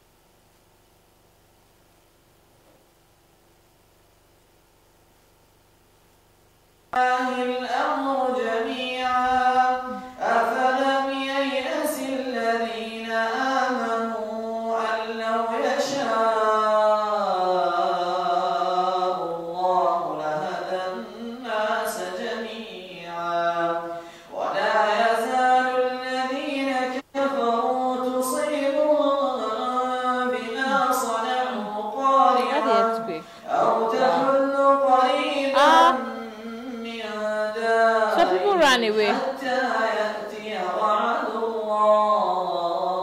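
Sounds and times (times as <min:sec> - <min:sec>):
man chanting recitation: 0:07.0 - 0:43.0.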